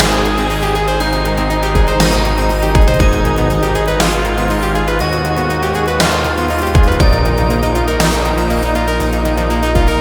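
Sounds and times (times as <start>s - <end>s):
bass hit: 0.0s - 10.0s
electronic music: 0.0s - 10.0s.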